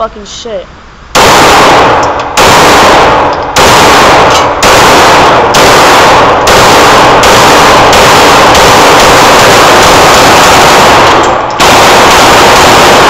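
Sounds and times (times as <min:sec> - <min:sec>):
pistol shots: 0:01.1 - 0:13.0.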